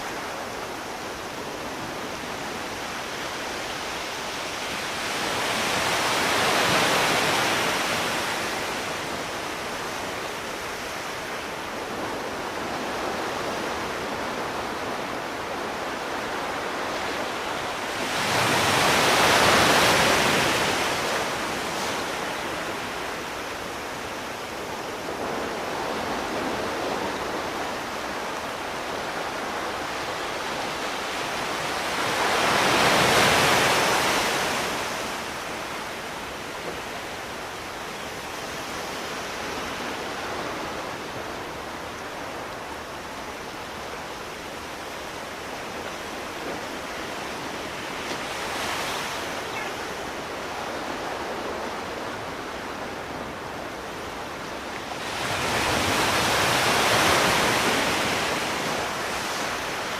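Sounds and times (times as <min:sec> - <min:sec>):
sea surf washing onto shore: 0:00.0 - 0:59.9.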